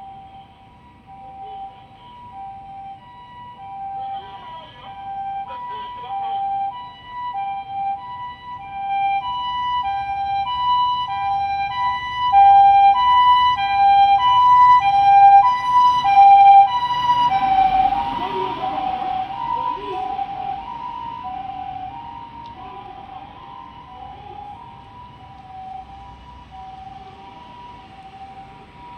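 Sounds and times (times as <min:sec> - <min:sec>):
two-tone ambulance siren: 0:00.0 - 0:28.9.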